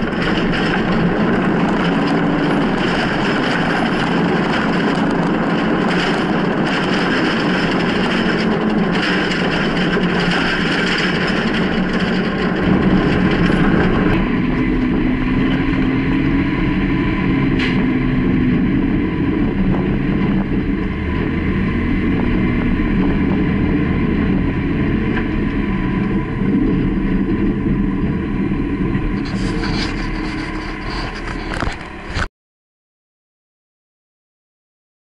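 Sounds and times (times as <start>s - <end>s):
truck diesel engine running: 0.0s - 32.3s.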